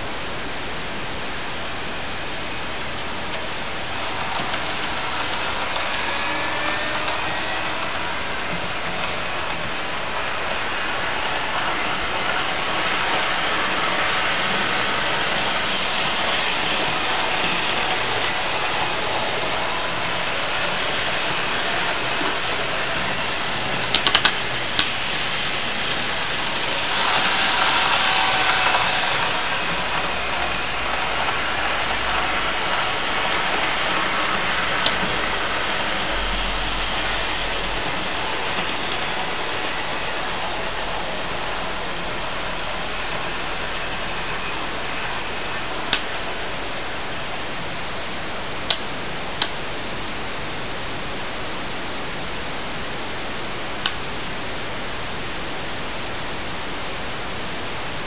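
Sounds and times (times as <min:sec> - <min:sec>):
model train running on track: 0:00.0 - 0:58.0
faint rising whine: 0:01.3 - 0:48.0.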